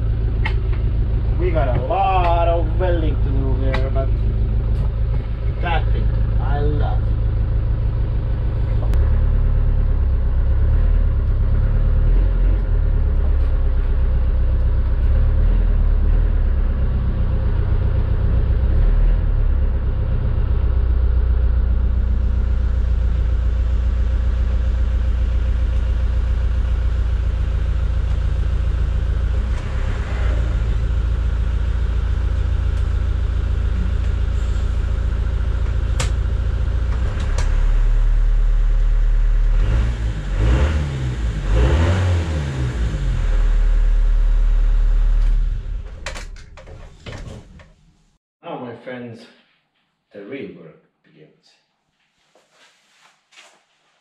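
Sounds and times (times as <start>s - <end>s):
car engine running: 0.0s - 47.8s.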